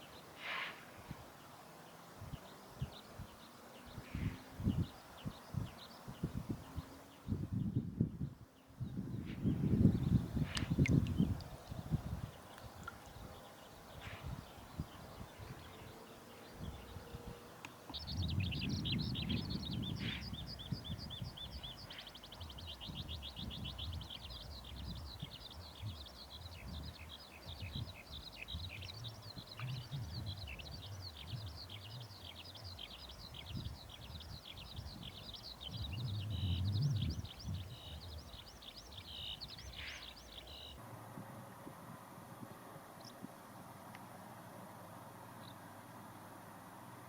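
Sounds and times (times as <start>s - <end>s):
songbirds chirping and trilling: 0.0s - 40.8s.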